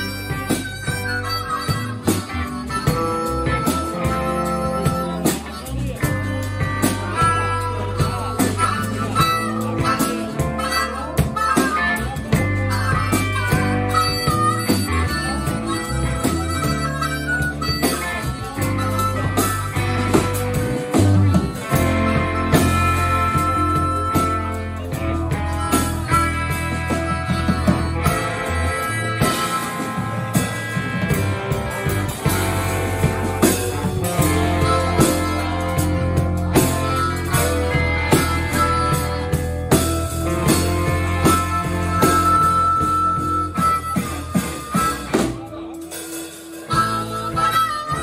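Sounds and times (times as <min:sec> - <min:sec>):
bass guitar: 0:00.0 - 0:48.0
drum kit: 0:00.0 - 0:48.0
electric guitar: 0:00.0 - 0:48.0.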